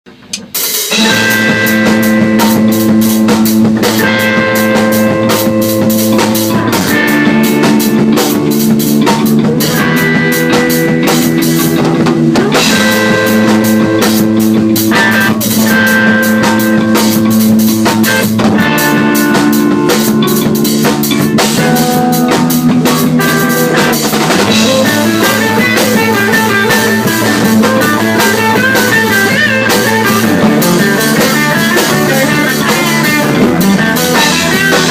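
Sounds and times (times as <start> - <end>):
rock drum beat: 0.1 - 34.9
sustained rock chords: 0.1 - 34.9.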